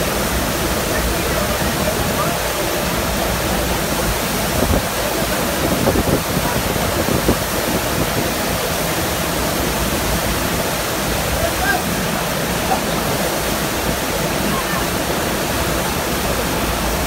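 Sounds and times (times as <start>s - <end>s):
water rushing loudly: 0.0s - 17.0s.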